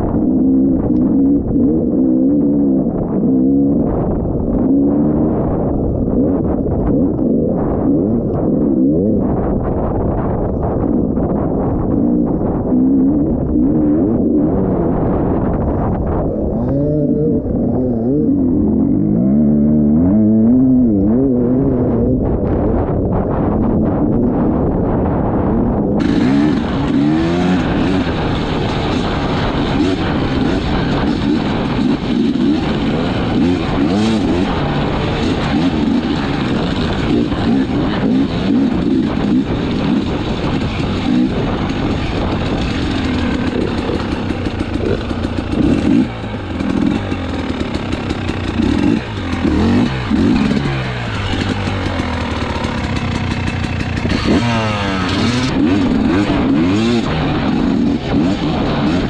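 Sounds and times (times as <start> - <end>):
dirt bike engine revving: 0.0 - 9.5, 11.2 - 22.3, 25.5 - 59.0.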